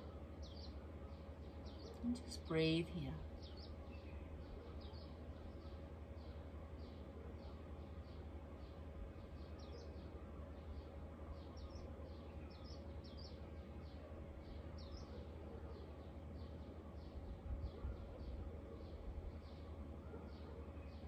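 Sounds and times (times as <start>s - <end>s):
bird chirping: 0.0s - 21.0s
low steady hum: 0.0s - 21.0s.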